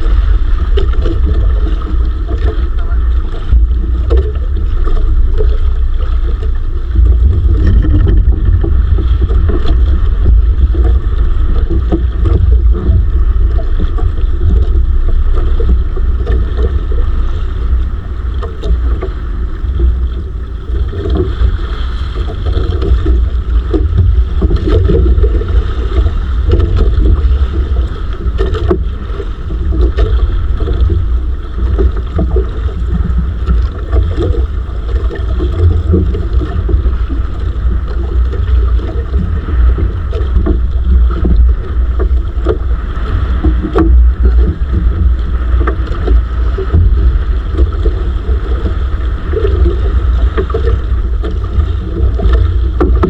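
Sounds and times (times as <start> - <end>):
boat engine running: 0.0 - 53.0
wind buffeting microphone: 0.0 - 53.0.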